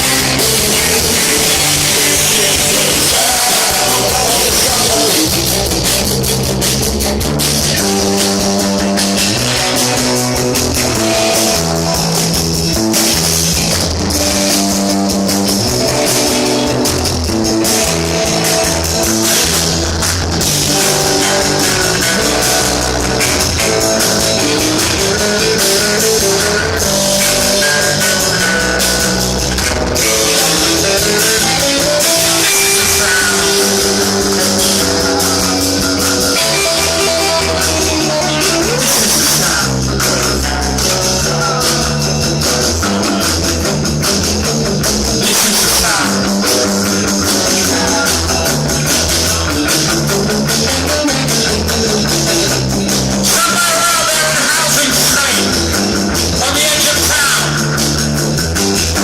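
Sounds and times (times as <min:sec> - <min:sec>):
live punk rock band playing: 0:00.0 - 0:59.0.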